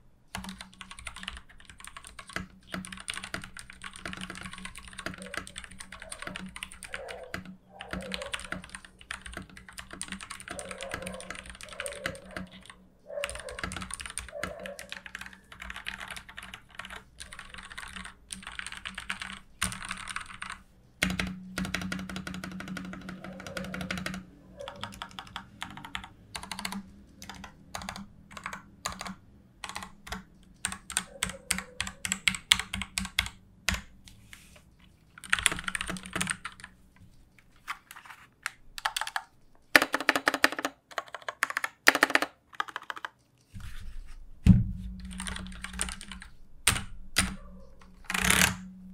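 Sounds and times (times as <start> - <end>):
mechanical keyboard typing: 0.3 - 33.9, 35.2 - 36.7, 37.9 - 43.2, 45.0 - 48.7.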